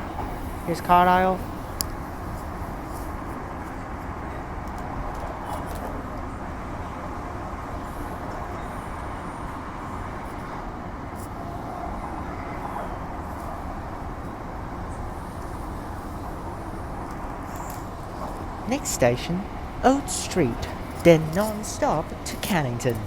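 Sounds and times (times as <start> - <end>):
electric train running noise: 0.0 - 23.0.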